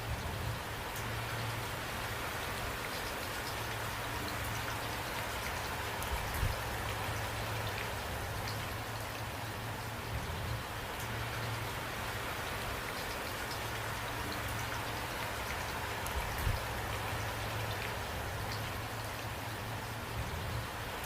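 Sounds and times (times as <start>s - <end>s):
steady rainfall: 0.0s - 21.0s
raindrop ticks: 0.1s - 21.0s.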